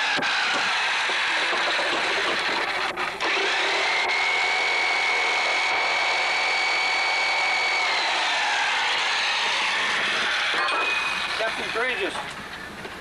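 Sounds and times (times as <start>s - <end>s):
motor whine: 0.0s - 12.6s.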